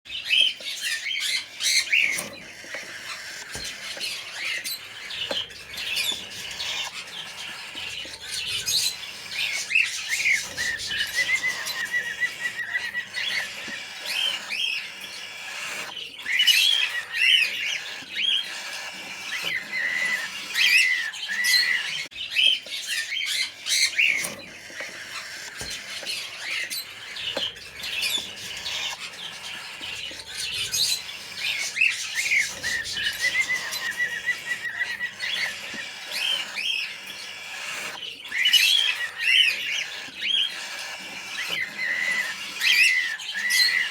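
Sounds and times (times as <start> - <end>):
cockatiel chicks calling: 0.1 - 43.9.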